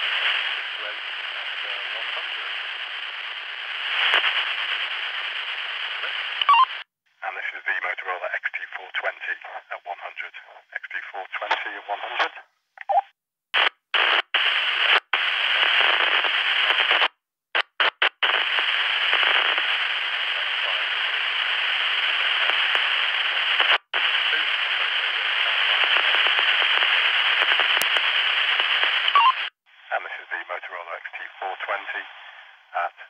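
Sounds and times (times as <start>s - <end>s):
walkie-talkie static hiss and crackle: 0.0s - 33.0s.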